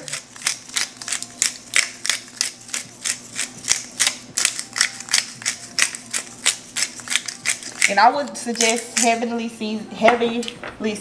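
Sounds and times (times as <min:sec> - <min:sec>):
pepper grinder clicking: 0:00.0 - 0:09.2.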